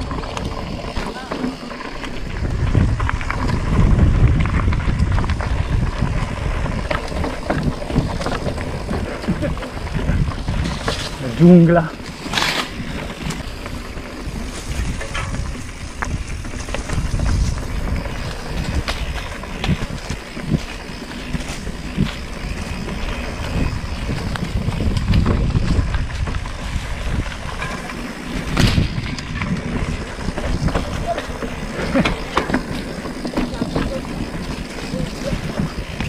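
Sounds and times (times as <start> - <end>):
bike rattling: 0.0 - 36.0
clicks and knocks of bike bouncing: 0.0 - 36.0
tyres rumbling on dirt: 0.0 - 36.0
wind on microphone: 2.1 - 36.0.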